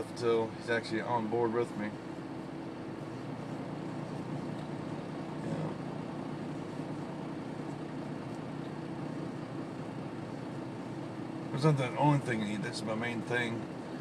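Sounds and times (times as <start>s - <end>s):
air-conditioning fan blowing: 0.0s - 14.0s
truck engine running: 0.0s - 14.0s.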